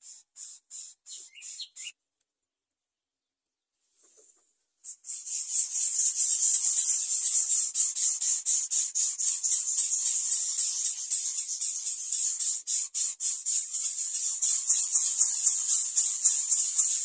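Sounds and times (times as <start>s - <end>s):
nestlings begging with raspy hiss: 0.0s - 1.9s, 4.8s - 17.0s.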